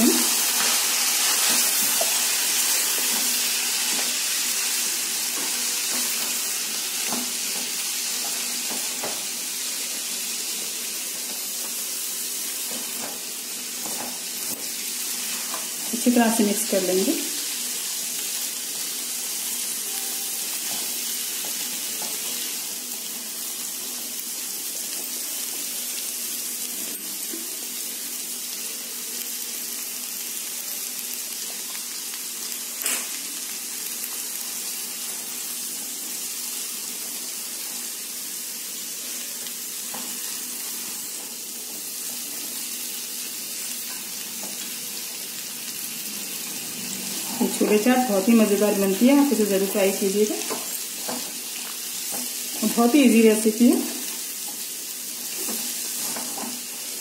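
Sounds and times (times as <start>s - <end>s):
chickpeas sizzling in hot oil: 0.0s - 57.0s.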